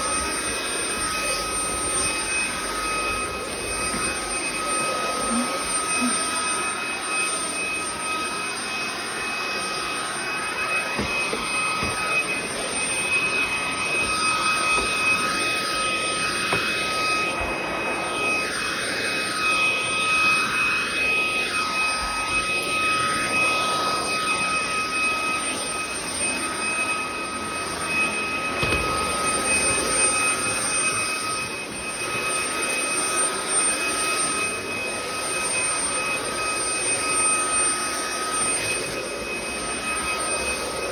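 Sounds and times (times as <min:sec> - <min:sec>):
stick vacuum running: 0:00.0 - 0:40.9.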